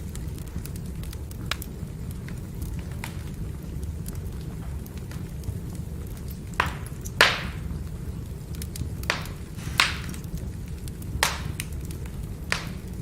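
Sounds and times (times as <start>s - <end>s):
firewood fire burning: 0.0s - 13.0s
logs popping and crackling: 0.0s - 13.0s.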